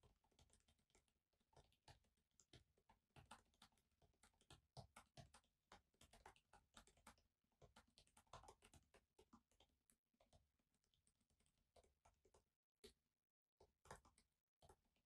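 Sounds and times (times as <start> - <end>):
laptop keyboard typing: 0.0 - 13.0, 13.6 - 15.0.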